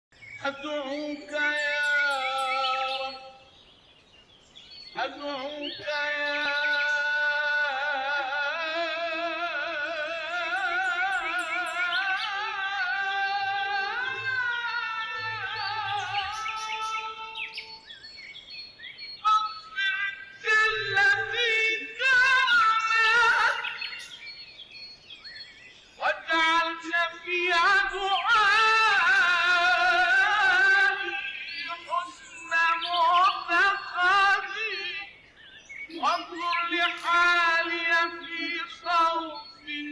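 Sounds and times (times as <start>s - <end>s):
person singing with vibrato: 0.2s - 3.6s, 4.9s - 17.9s, 19.2s - 24.2s, 26.0s - 39.9s.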